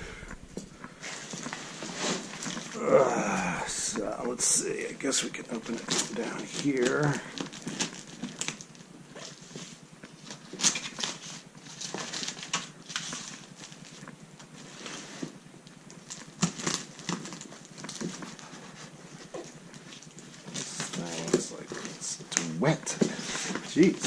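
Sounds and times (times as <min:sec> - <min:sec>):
cardboard rustling and scraping: 0:00.3 - 0:03.0, 0:03.7 - 0:15.4, 0:16.0 - 0:24.0.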